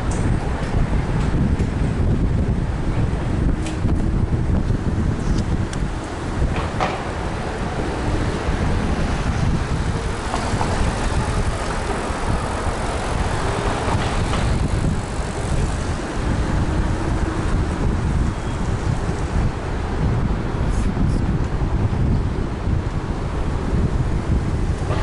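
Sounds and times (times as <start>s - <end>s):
car traffic: 0.0s - 25.0s
scooter road rumble: 0.0s - 25.0s
wind noise: 0.0s - 25.0s.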